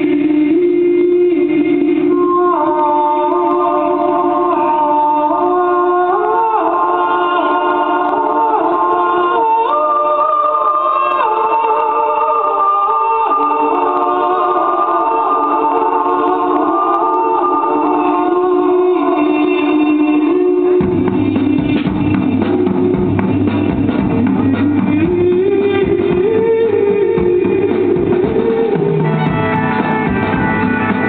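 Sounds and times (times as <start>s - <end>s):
choir-like music: 0.0s - 31.0s.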